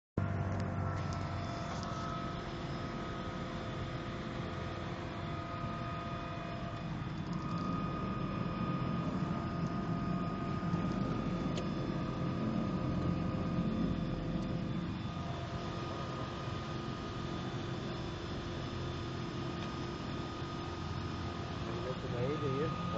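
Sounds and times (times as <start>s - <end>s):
turboprop engine hum and whine: 0.0s - 22.9s.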